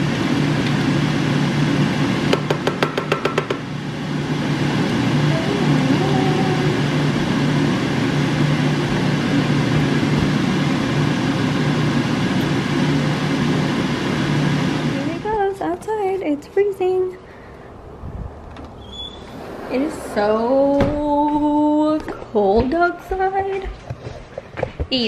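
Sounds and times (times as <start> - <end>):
kitchen hum: 0.0 - 25.0.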